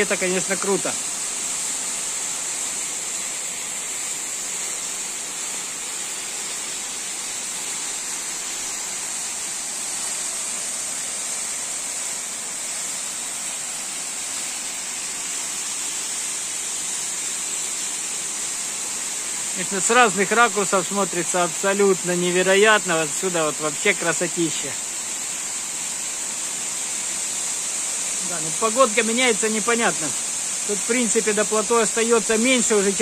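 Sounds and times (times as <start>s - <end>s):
hiss of spray: 0.0s - 33.0s
waterfall rushing: 0.0s - 33.0s.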